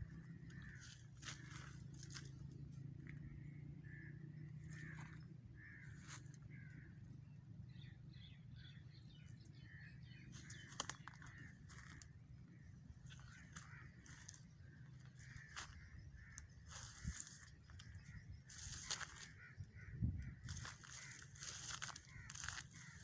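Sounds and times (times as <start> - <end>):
faint birds calling: 0.0 - 23.0
low steady hum: 0.0 - 23.0.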